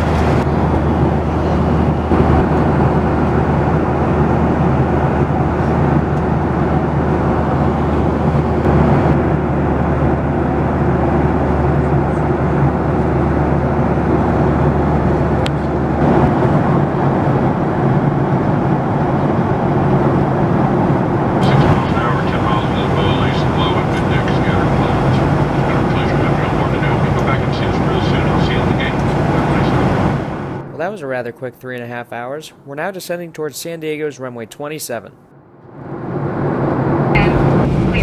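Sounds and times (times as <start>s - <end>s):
aircraft cabin engine rush: 0.0s - 33.5s, 35.7s - 38.0s
low hum: 0.0s - 33.6s.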